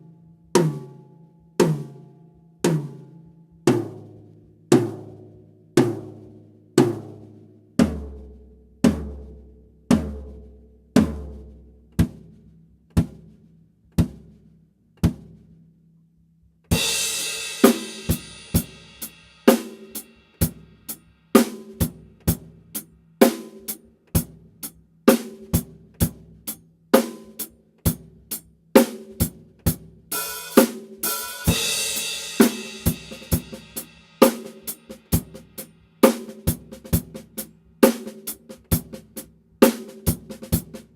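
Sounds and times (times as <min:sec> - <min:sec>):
drum kit groove: 0:03.7 - 0:15.6, 0:16.7 - 0:40.9.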